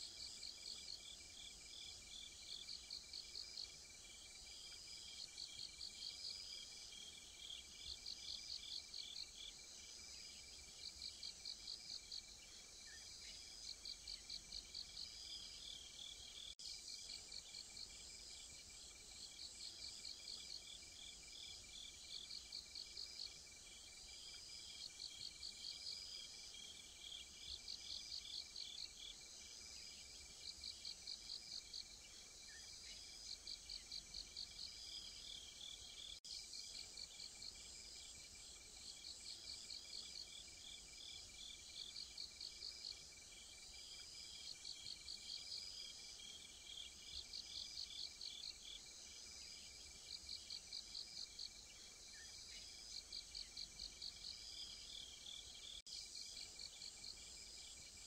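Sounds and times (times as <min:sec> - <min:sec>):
continuous insect trill: 0:00.0 - 0:58.0
cricket pulsed trills: 0:00.0 - 0:58.0.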